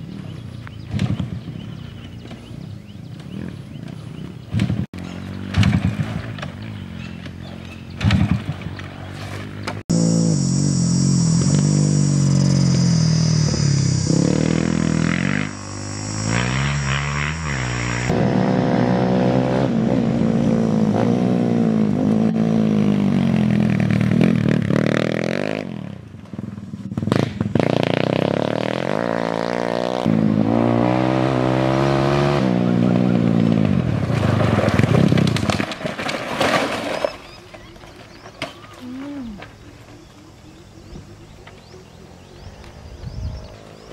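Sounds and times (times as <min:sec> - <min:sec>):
dirt bike engines revving: 0:00.0 - 0:35.4, 0:38.9 - 0:43.9.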